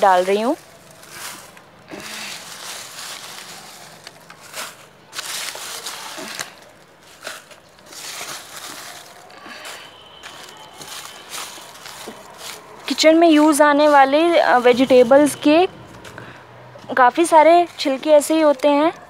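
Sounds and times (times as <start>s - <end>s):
dry peels rustling and crackling: 0.0s - 19.0s.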